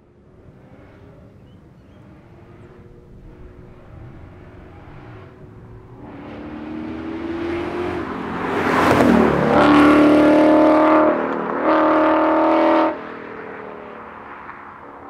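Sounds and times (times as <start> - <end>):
car engine passing at speed: 0.0 - 15.0.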